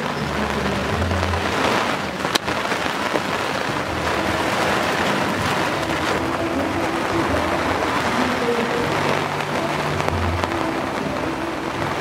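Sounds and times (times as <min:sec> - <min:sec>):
heavy rain hiss: 0:00.0 - 0:12.0
sharp crack: 0:00.0 - 0:12.0.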